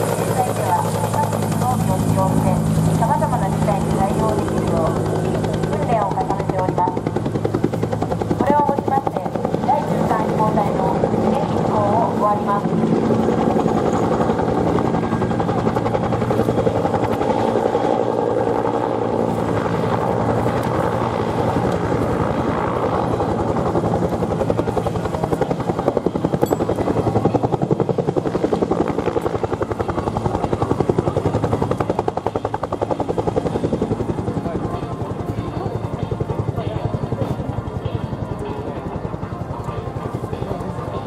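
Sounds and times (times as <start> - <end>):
helicopter rotor beating: 0.0 - 41.0
turbine engine running: 0.0 - 41.0.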